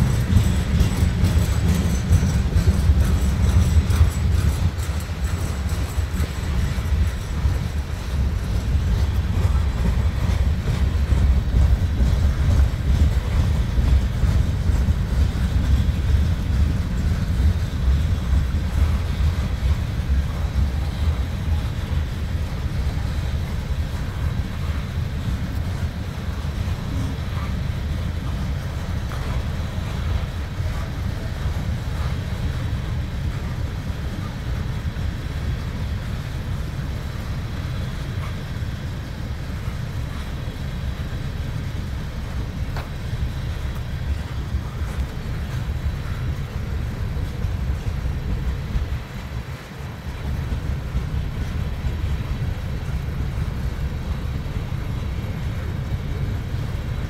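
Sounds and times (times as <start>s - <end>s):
freight train wheels rumbling on track: 0.0s - 57.0s.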